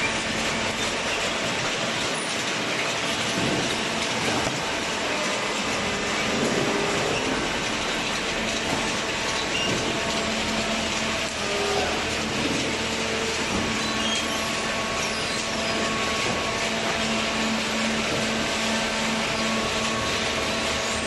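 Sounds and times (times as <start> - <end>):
baler machine running: 0.0 - 21.0.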